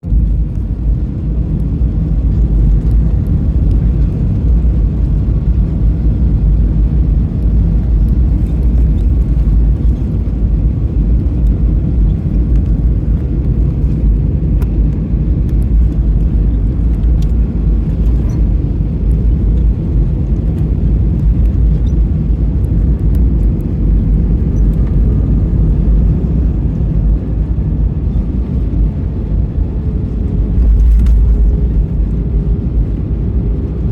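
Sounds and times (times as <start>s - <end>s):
airliner cabin rumble: 0.0s - 33.9s.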